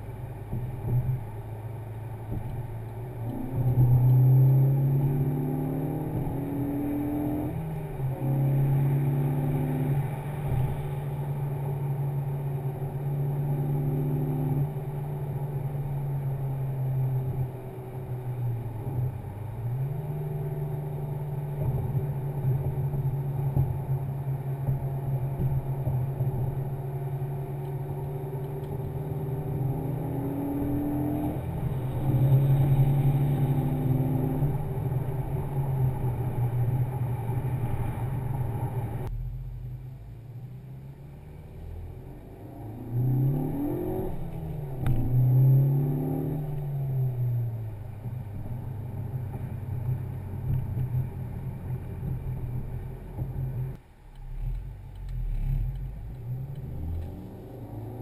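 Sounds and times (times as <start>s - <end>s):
car engine droning from inside cabin: 0.0s - 58.0s.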